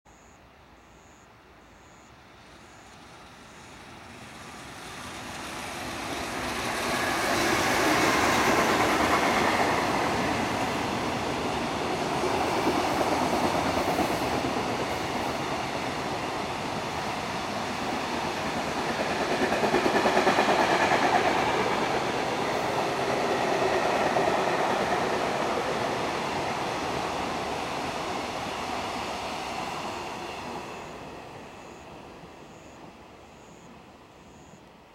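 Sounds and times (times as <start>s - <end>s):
freight train wheels on rails: 2.2s - 34.8s.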